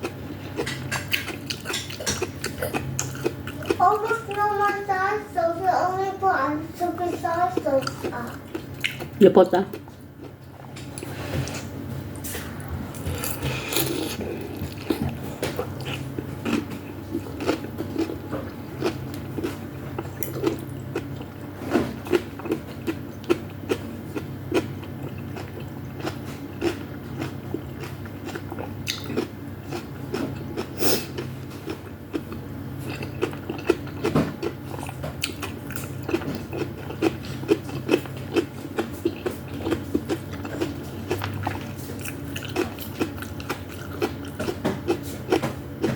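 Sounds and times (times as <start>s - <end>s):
wet chewing mouth sounds: 0.0s - 5.3s, 6.8s - 45.9s.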